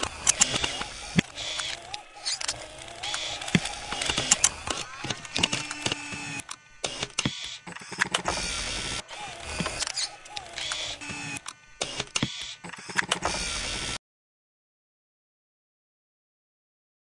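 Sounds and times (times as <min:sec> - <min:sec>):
electronic blips: 0:00.0 - 0:14.0
glitchy stuttering clicks: 0:00.0 - 0:14.0.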